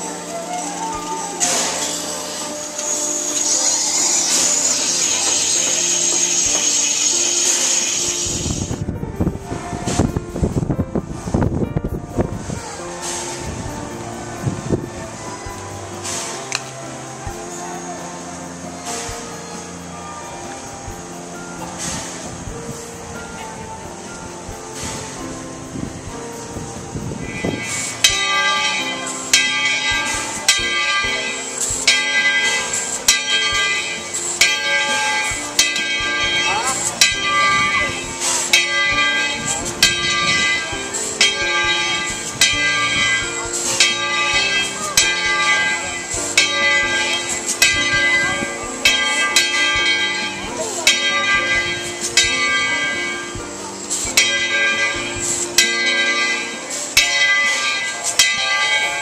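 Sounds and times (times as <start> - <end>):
steam locomotive bell ringing: 0.0 - 8.8, 12.4 - 59.0.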